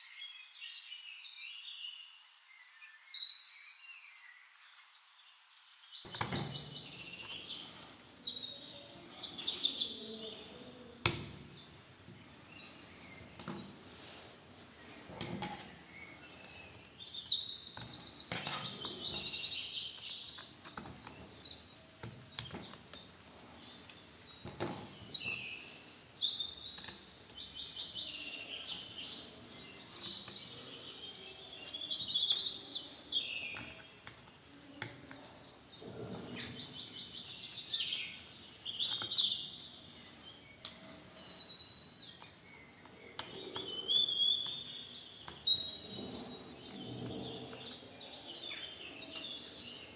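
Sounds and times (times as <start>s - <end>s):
birds chirping and trilling: 0.0s - 49.9s.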